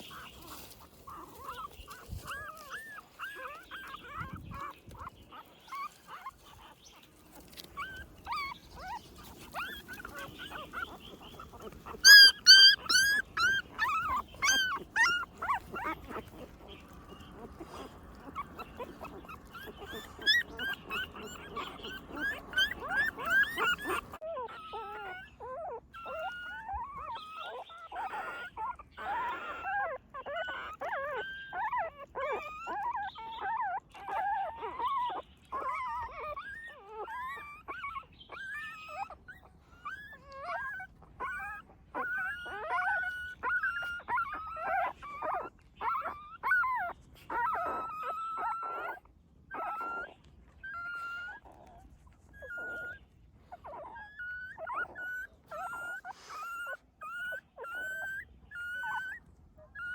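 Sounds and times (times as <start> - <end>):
puppies whimpering and squealing: 0.0 - 59.9.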